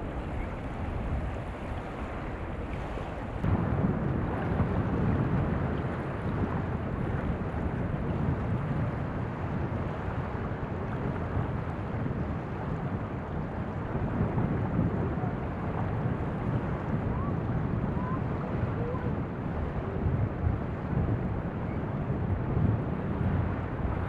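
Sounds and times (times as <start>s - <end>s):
waves lapping on sand: 0.0s - 24.0s
wind rumble on microphone: 0.0s - 24.0s.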